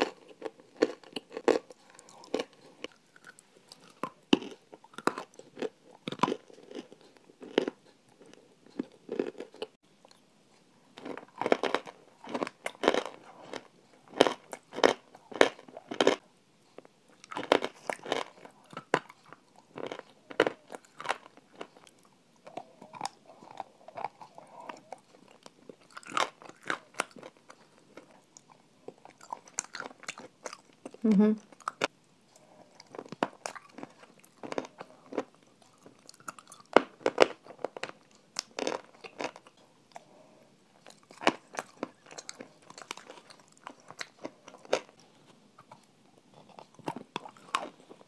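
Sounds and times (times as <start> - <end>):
crunchy biting and chewing: 0.0 - 10.2, 10.9 - 16.2, 16.8 - 48.0.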